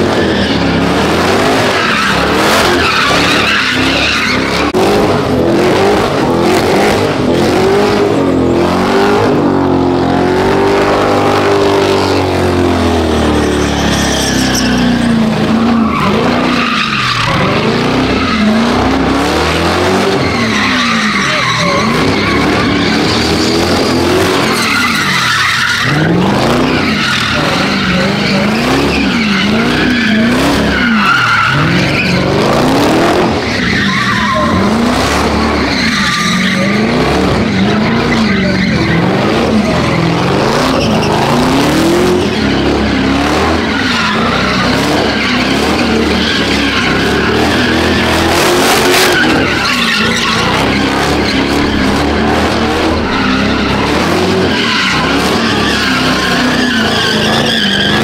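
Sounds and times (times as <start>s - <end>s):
car engine revving: 0.0s - 58.0s
tyres screeching: 0.0s - 58.0s.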